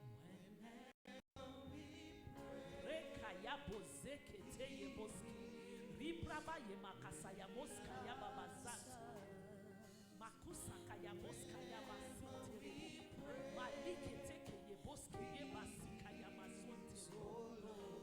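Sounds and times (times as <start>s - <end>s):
choir singing gospel music: 0.2s - 18.0s.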